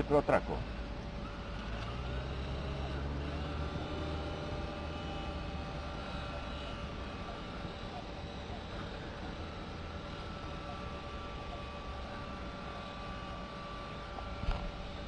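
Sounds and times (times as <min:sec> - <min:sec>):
faint high whining tones: 0:00.0 - 0:15.0
low motor hum: 0:00.0 - 0:15.0.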